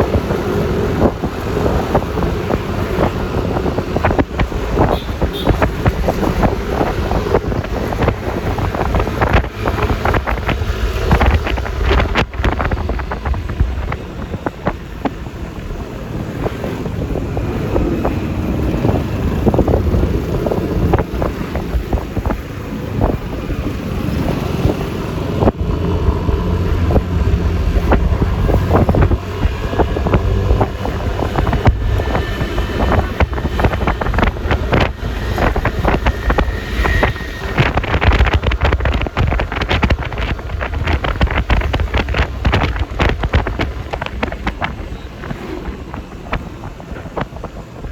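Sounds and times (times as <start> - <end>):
scooter engine and tyre noise: 0.0 - 47.9
wind buffeting microphone: 0.0 - 47.9.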